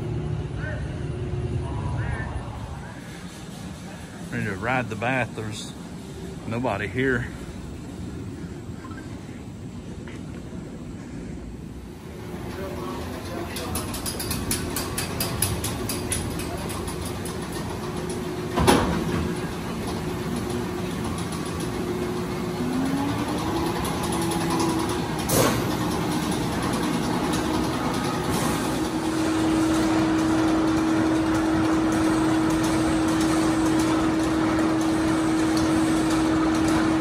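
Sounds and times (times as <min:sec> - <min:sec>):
roller coaster machinery hum: 0:00.0 - 0:37.0.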